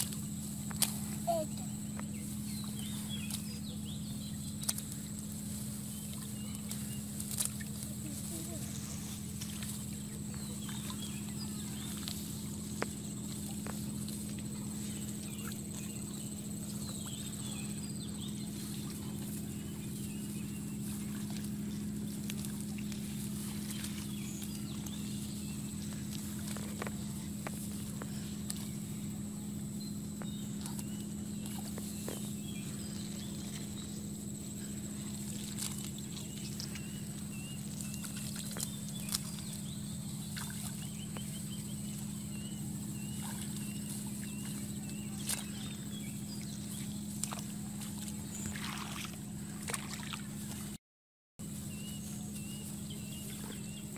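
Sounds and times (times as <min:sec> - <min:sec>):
faint chirps: 0:00.0 - 0:50.0
steady low hum: 0:00.0 - 0:50.8, 0:51.4 - 0:53.9.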